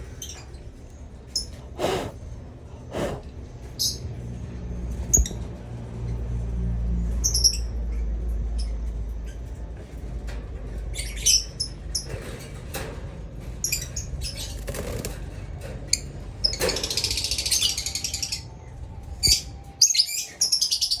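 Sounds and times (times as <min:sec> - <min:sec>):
birds chattering: 0:00.0 - 0:04.2, 0:07.1 - 0:21.0
birds chirping: 0:00.0 - 0:21.0.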